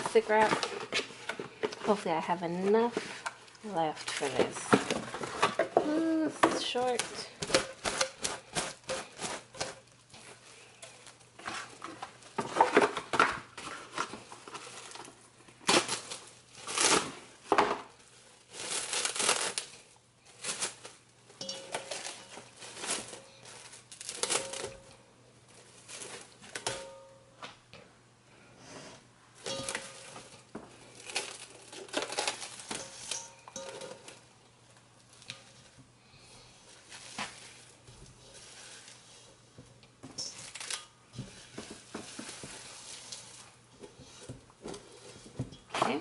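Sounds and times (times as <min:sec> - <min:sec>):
plastic cling wrap crinkling: 0:00.0 - 0:26.9, 0:29.4 - 0:35.8, 0:36.4 - 0:46.0.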